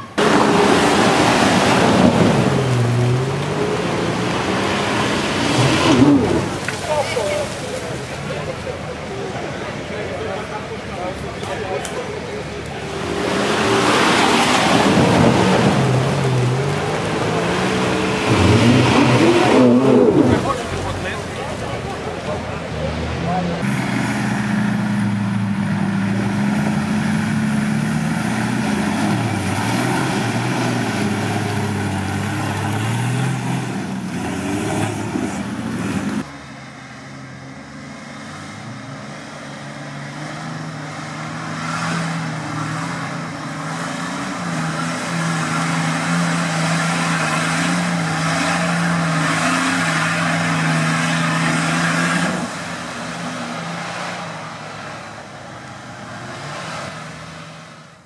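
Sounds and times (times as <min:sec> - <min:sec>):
off-road engines revving: 0:00.0 - 0:58.0
steady engine drone: 0:00.0 - 0:58.0.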